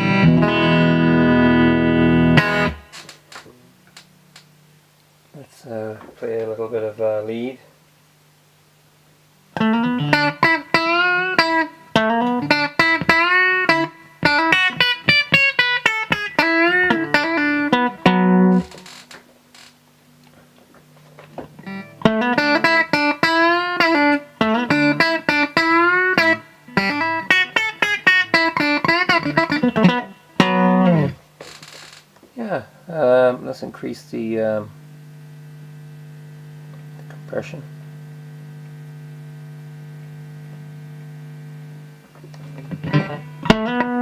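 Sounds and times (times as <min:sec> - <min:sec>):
clean electric guitar lead lines: 0:00.0 - 0:04.6, 0:09.5 - 0:31.2, 0:32.6 - 0:44.0
amplifier hum: 0:00.0 - 0:44.0.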